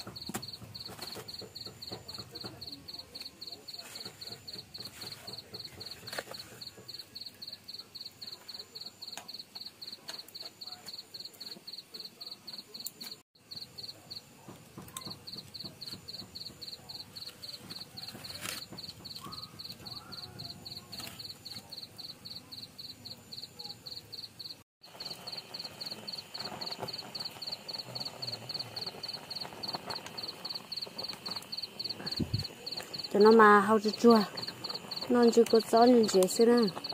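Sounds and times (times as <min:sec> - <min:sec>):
cricket chirping: 0:00.0 - 0:14.3, 0:14.9 - 0:36.9
wood fire popping: 0:00.0 - 0:23.5, 0:24.8 - 0:36.9.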